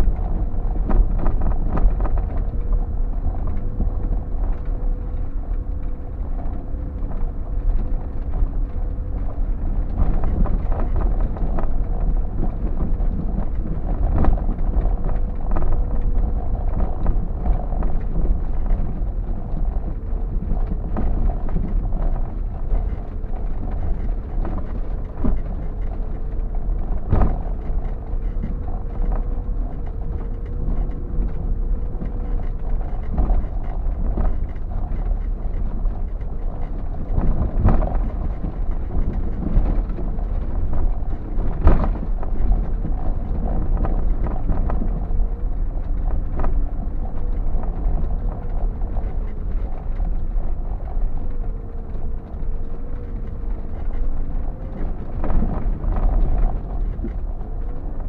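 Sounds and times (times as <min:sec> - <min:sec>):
heavy rumble: 0:00.0 - 0:58.0
vehicle engine drone: 0:00.0 - 0:58.0.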